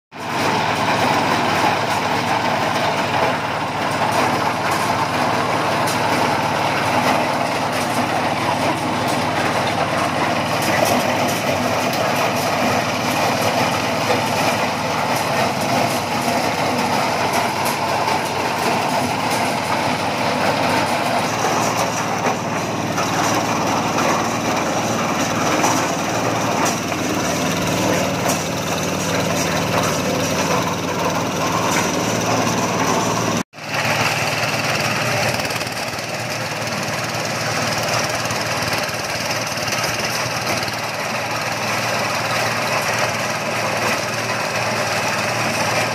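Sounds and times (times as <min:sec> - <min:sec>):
corn sheller rattling: 0:00.2 - 0:45.9
diesel engine drone: 0:00.2 - 0:45.9.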